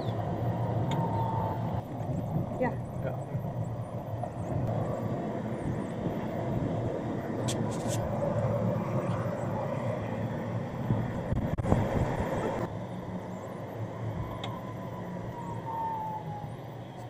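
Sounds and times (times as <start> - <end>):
golf cart rumbling on pavement: 0.0 - 15.7.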